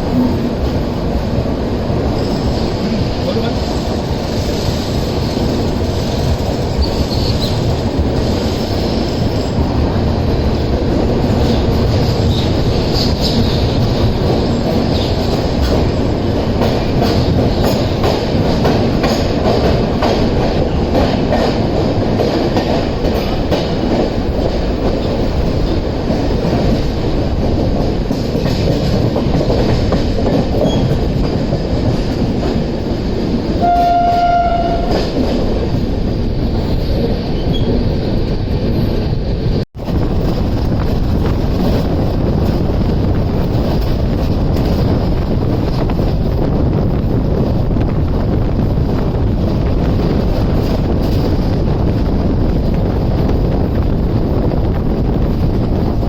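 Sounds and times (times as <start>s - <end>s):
train coaches rumbling and rattling: 0.0s - 56.0s.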